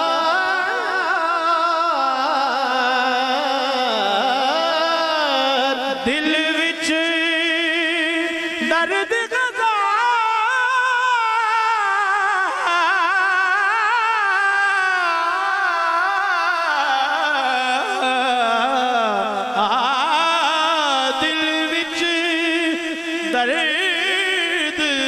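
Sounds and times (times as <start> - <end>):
man singing into microphone: 0.0 - 25.0.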